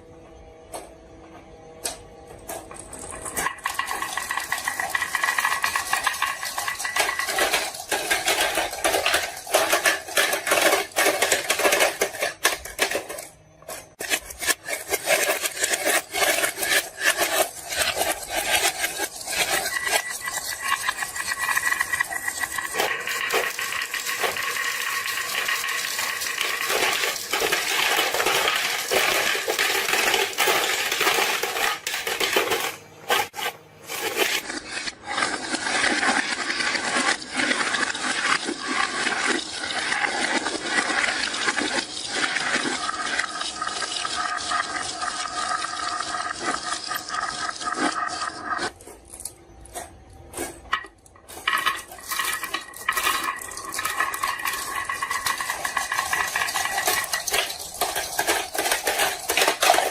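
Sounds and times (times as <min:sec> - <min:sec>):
marbles rattling down wooden run: 0:02.8 - 0:13.2, 0:13.9 - 0:34.5, 0:35.3 - 0:47.2, 0:50.7 - 0:59.9.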